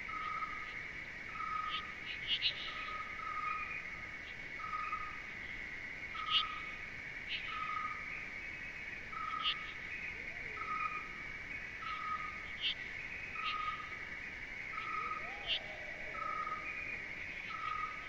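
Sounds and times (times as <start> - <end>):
high insect chorus: 0.0 - 18.0.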